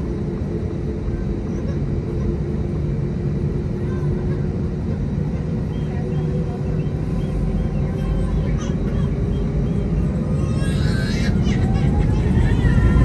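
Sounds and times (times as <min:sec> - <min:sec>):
faint constant hum: 0:00.0 - 0:13.0
jet engines idling: 0:00.0 - 0:13.0.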